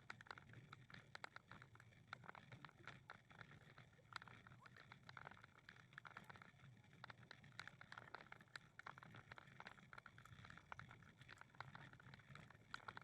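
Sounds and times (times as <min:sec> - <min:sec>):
light irregular clicks and taps: 0:00.0 - 0:13.0.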